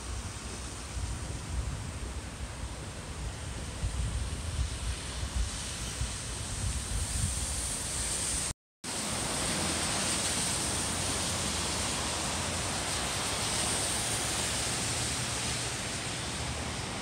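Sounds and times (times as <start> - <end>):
floodwater rushing through channel: 0.0 - 17.0.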